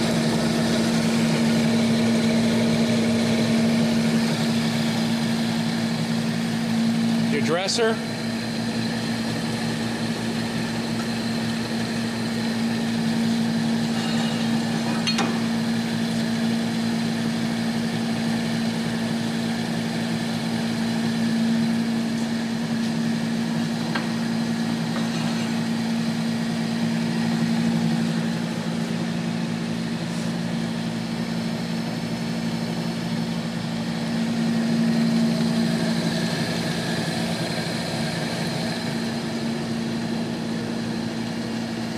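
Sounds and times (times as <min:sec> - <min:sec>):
grinder motor hum: 0:00.0 - 0:41.9.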